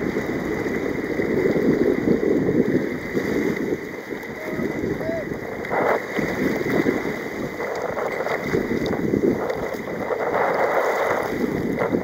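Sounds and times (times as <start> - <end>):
sea water rushing and splashing: 0.0 - 12.0
wind buffeting microphone: 0.0 - 12.0.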